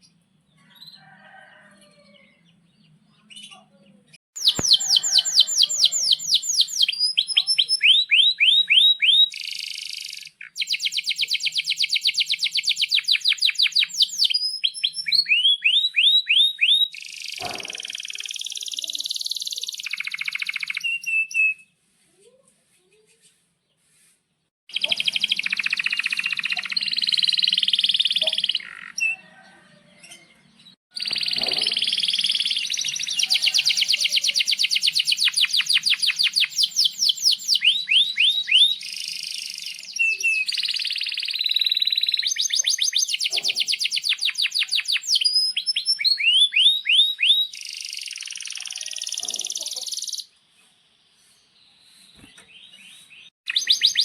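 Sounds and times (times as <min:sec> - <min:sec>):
canary singing: 0:04.4 - 0:21.7, 0:24.7 - 0:50.3, 0:52.5 - 0:54.0.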